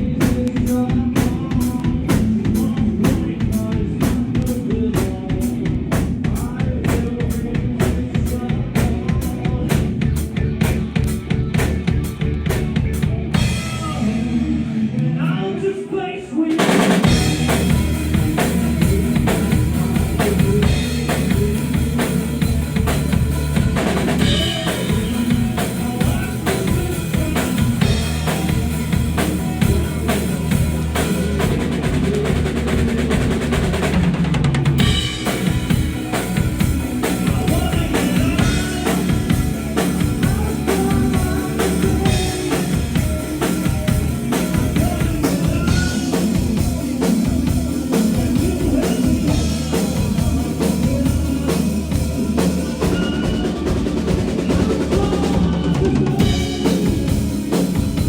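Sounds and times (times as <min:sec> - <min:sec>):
drum kit beat: 0:00.0 - 0:14.4, 0:16.5 - 0:58.0
live rock band playing: 0:00.0 - 0:14.8, 0:16.5 - 0:58.0.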